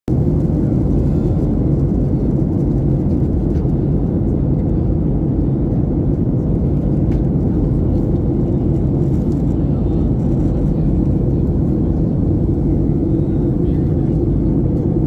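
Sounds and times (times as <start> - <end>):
jet engine cabin drone: 0.1 - 15.0.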